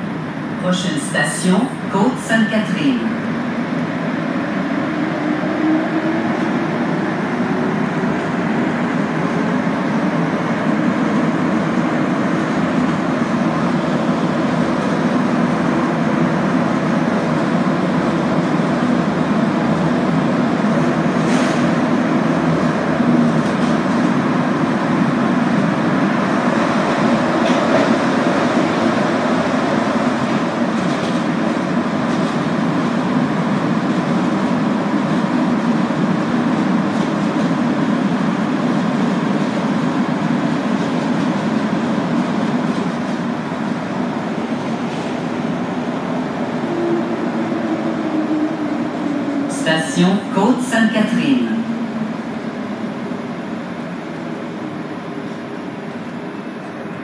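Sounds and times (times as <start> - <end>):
subway train rumbling in tunnel: 0.0 - 57.0.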